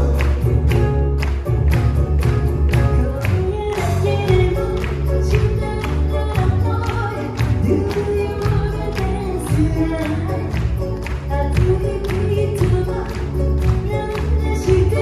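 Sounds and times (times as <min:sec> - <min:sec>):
audience clapping along: 0:00.0 - 0:15.0
live pop band playing: 0:00.0 - 0:15.0
woman singing: 0:02.7 - 0:15.0.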